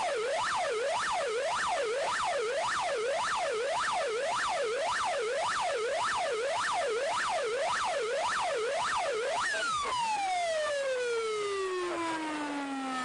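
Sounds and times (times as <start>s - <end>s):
siren yelping wail: 0.0s - 13.0s.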